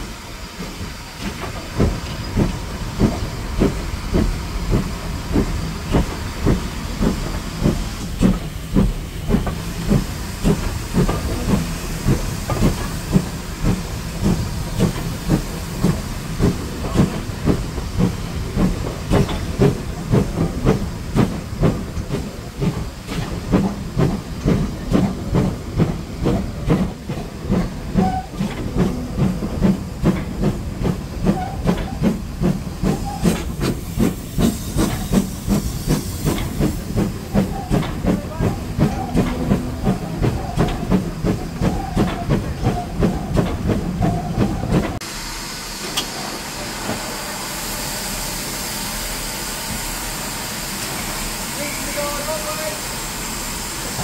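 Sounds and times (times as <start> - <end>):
steady hiss of steam: 0.0 - 42.6, 45.0 - 54.0
steam locomotive chuffing: 0.0 - 54.0.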